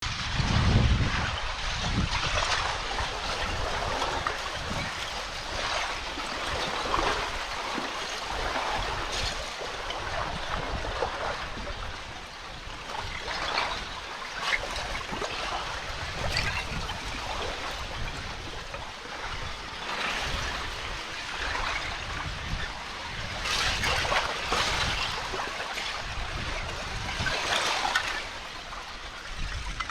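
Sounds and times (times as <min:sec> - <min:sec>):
water splashing: 0:00.2 - 0:29.9.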